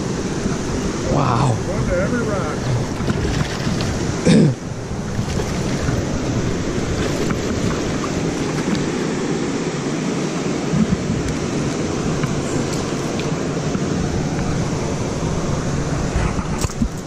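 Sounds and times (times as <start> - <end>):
water rushing through spillway: 0.0 - 17.0.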